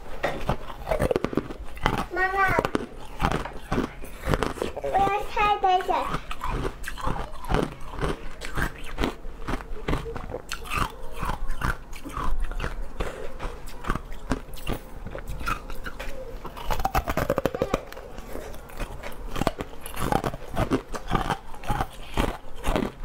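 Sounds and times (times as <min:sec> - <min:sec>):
chewing: 0:00.0 - 0:23.0.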